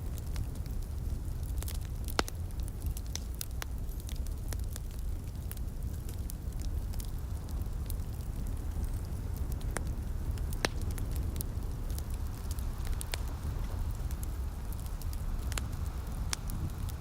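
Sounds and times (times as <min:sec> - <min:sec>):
soft rain hiss: 0:00.0 - 0:17.0
wood fire crackling and popping: 0:00.0 - 0:17.0.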